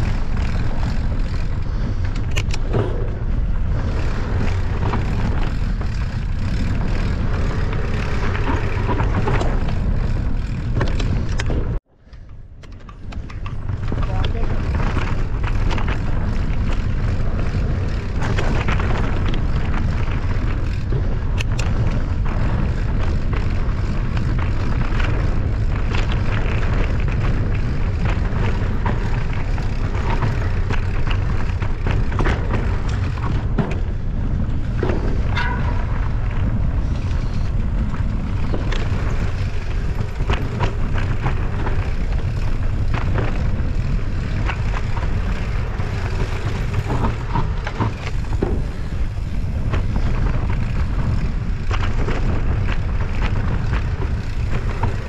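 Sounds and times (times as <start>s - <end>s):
bike clicks and rattles: 0.0s - 55.0s
wind rumble on microphone: 0.0s - 55.0s.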